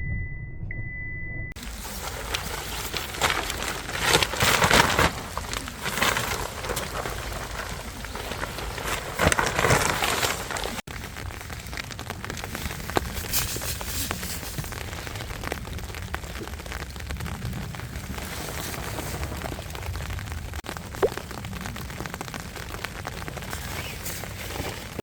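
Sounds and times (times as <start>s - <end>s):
rain falling and spattering: 1.6s - 25.0s.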